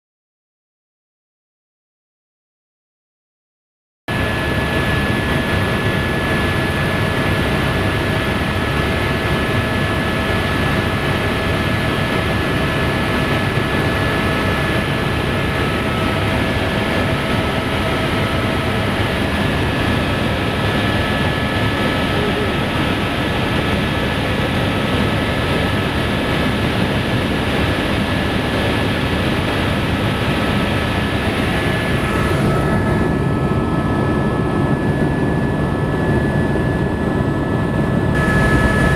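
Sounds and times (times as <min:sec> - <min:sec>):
helicopter engine and rotor noise: 0:04.1 - 0:38.9
high whine: 0:04.1 - 0:38.9.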